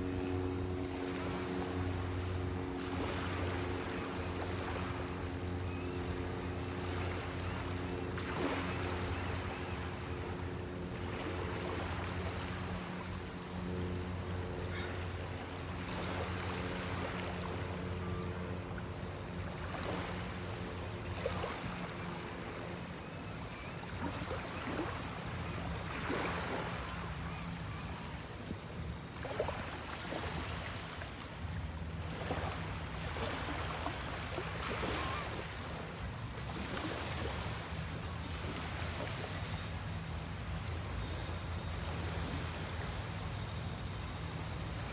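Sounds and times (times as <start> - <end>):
low steady hum: 0.0 - 44.9
small waves lapping: 0.0 - 44.9.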